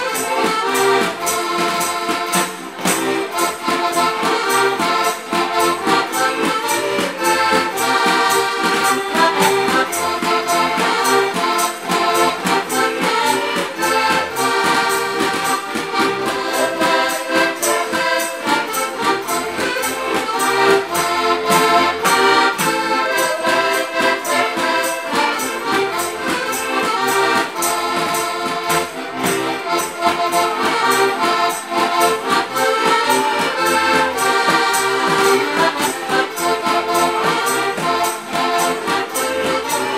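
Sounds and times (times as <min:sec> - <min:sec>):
button accordions playing folk tune: 0:00.0 - 0:39.9.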